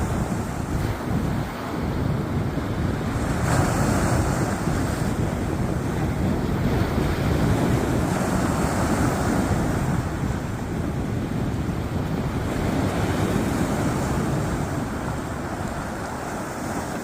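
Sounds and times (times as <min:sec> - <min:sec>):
sea waves on shore: 0:00.0 - 0:17.0
wind buffeting microphone: 0:00.0 - 0:17.0.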